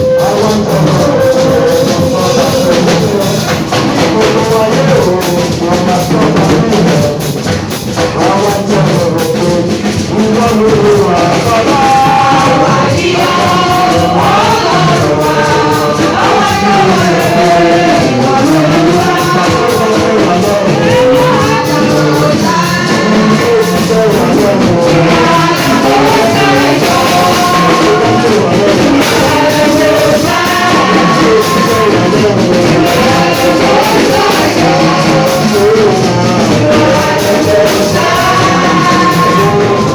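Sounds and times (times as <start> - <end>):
choir singing worship song: 0.0 - 39.9
instrumental backing: 0.0 - 39.9.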